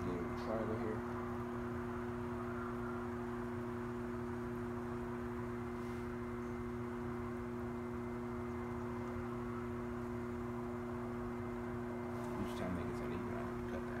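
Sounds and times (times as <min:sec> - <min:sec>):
potter's wheel motor humming: 0:00.0 - 0:14.0.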